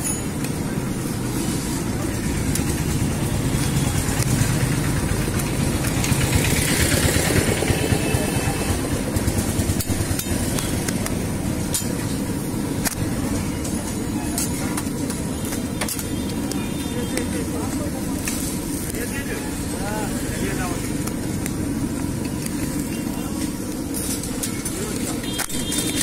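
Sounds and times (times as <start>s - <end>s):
street traffic rumble: 0.0s - 26.0s.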